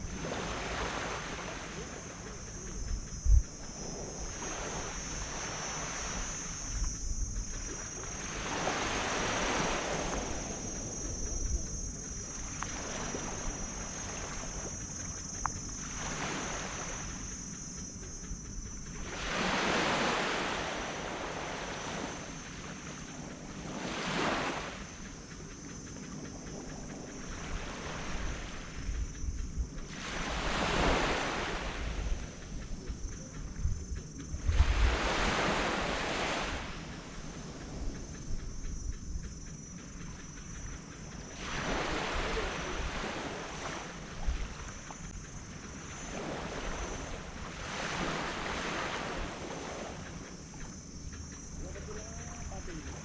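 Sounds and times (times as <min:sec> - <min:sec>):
sea waves breaking on beach: 0:00.0 - 0:33.4, 0:34.3 - 0:38.2, 0:39.9 - 0:53.0
wind rumble on microphone: 0:00.0 - 0:53.0.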